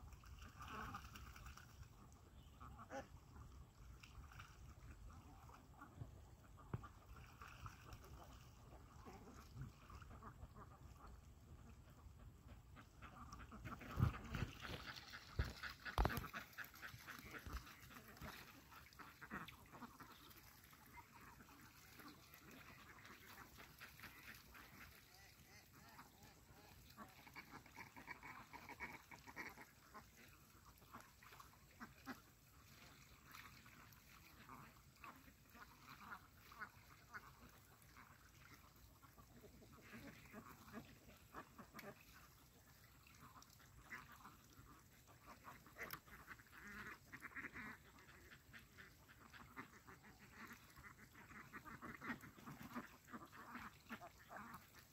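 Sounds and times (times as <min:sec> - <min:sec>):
ducks quacking: 0:00.1 - 0:54.9.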